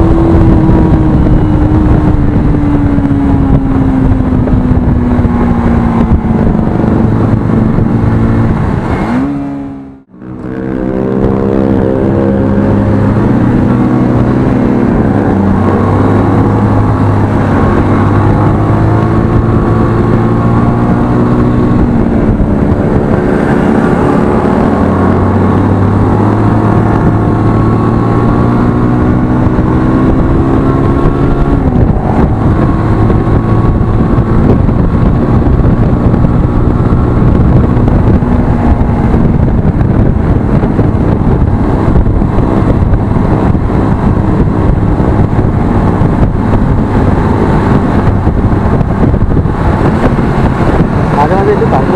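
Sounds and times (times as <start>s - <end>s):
motorcycle engine accelerating: 0.0s - 51.9s
wind and road noise: 0.0s - 51.9s.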